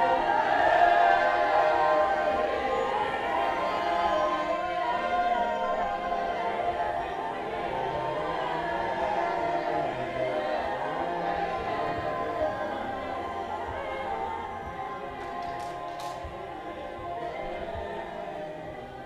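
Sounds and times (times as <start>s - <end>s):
voices singing together: 0.0s - 19.0s.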